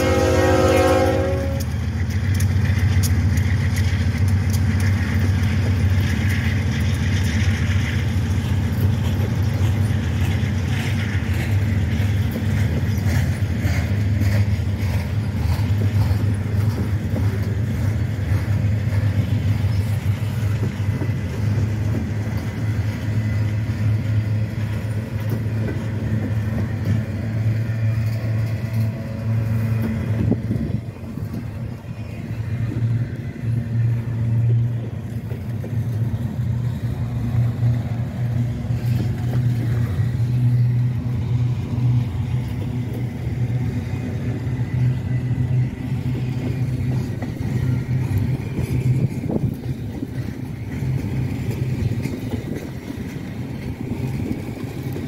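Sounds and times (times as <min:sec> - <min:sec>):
freight train rumbling past: 0:00.0 - 0:55.0
wheels clicking and clattering: 0:01.3 - 0:55.0.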